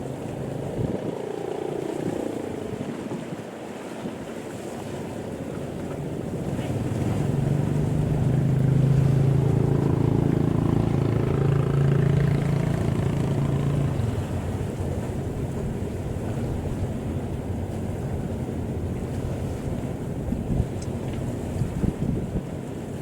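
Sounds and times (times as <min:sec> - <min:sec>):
boat engine humming: 0:00.0 - 0:23.0
waves: 0:00.0 - 0:23.0
wind: 0:00.0 - 0:23.0.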